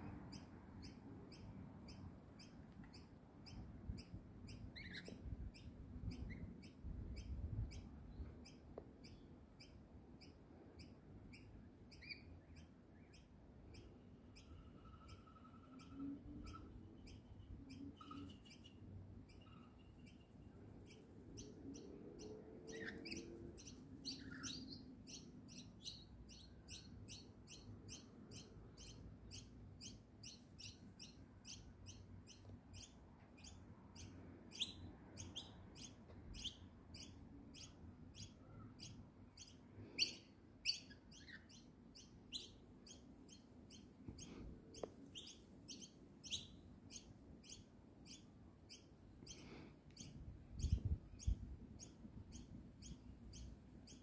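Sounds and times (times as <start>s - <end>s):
lorikeets chirping: 0.3s - 54.0s.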